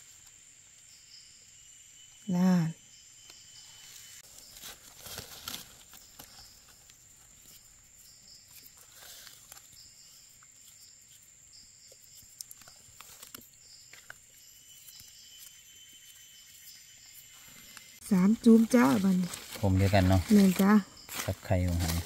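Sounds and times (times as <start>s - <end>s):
high insect drone: 0.0s - 22.0s
knife scraping soil: 4.1s - 22.0s.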